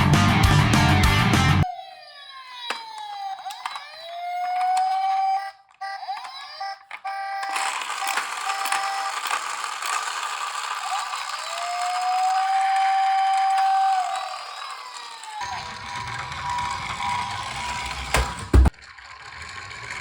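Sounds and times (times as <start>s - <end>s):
toy electronic siren wailing: 1.6s - 18.6s
toy car rattling down ramp: 2.2s - 20.0s.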